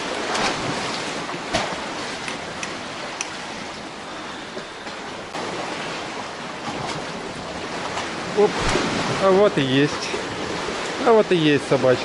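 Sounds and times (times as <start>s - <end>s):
waves washing among rocks: 0.0s - 12.0s.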